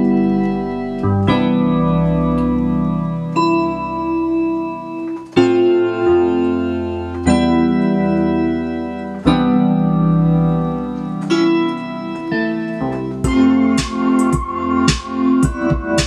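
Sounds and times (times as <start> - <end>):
organ-like keyboard chords: 0.0 - 16.0.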